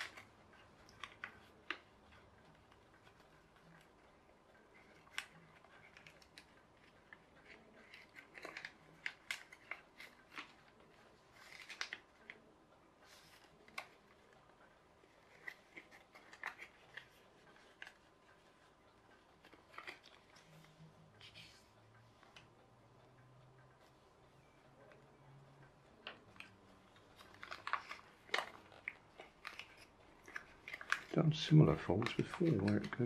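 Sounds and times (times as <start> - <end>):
paper being folded and creased: 0.0 - 21.7, 26.0 - 33.0.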